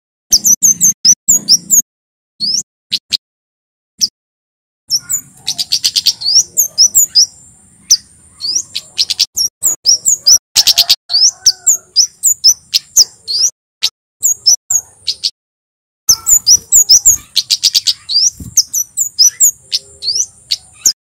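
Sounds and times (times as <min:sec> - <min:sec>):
bird calling high chirps: 0:00.3 - 0:01.8, 0:02.4 - 0:03.2, 0:04.9 - 0:13.6, 0:14.2 - 0:15.4, 0:16.1 - 0:21.0.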